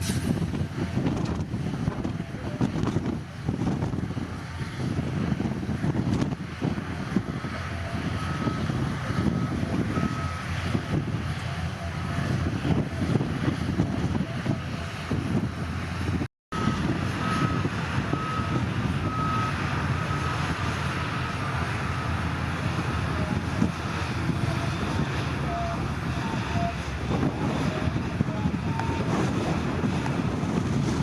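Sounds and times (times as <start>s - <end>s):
diesel earthmoving machinery rumbling: 0.0s - 31.0s.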